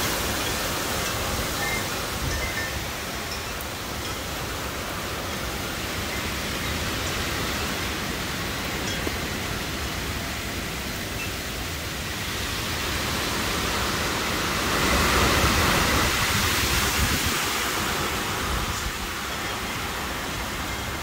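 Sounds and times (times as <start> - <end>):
heavy rain: 0.0 - 21.0
storm wind through trees: 0.0 - 21.0.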